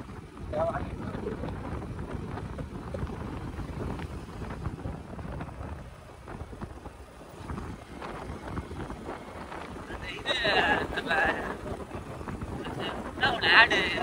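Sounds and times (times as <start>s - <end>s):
motorcycle engine and road rumble: 0.0s - 14.0s
wind buffeting microphone: 0.0s - 14.0s.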